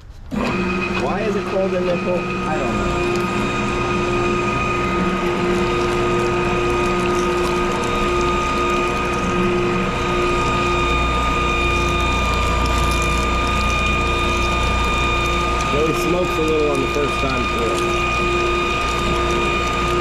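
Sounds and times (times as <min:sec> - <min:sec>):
pipe threading machine whirring: 0:00.0 - 0:20.0.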